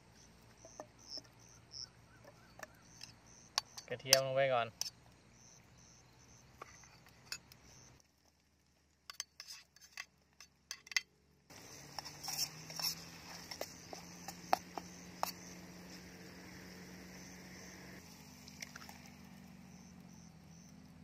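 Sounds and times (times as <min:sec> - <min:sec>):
insects chirping: 0:00.0 - 0:08.0, 0:11.5 - 0:21.0.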